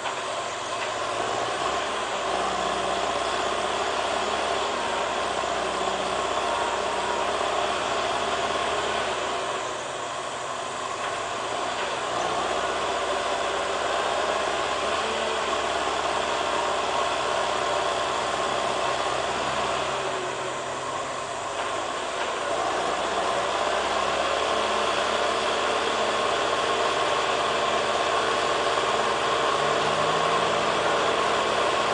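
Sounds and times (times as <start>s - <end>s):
diesel engine idling: 0.0s - 31.9s.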